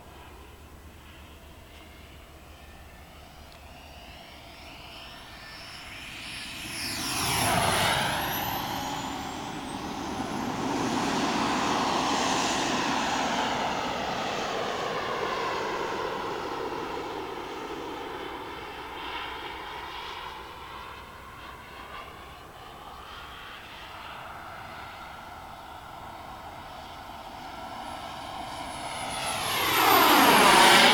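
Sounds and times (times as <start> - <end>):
model jet turbine whine: 0.0 - 30.9.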